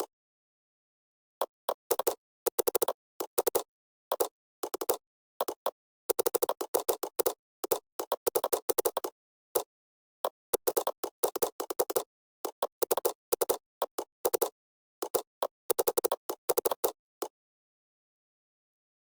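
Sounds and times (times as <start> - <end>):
computer keyboard typing: 1.9 - 17.3.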